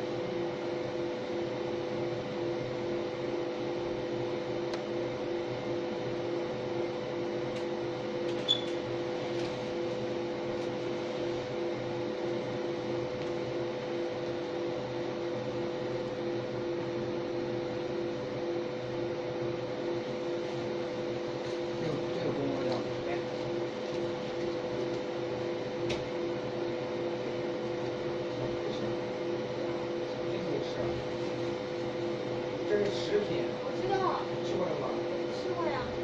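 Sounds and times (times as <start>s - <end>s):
laser machine humming with tones: 0.0s - 36.0s.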